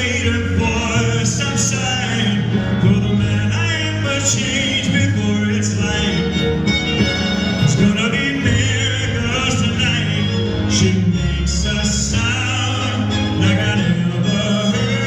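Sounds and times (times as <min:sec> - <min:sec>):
live pop band playing: 0:00.0 - 0:15.0
man singing: 0:00.0 - 0:15.0
sustained strings: 0:00.0 - 0:15.0.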